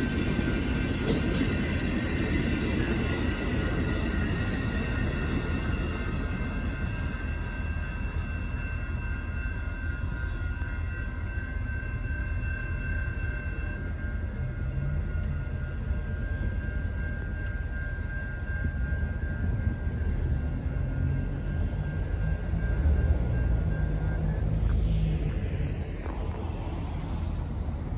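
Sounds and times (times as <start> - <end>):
high-pitched ringing tones: 0.0 - 27.9
train rumbling by: 0.0 - 27.9.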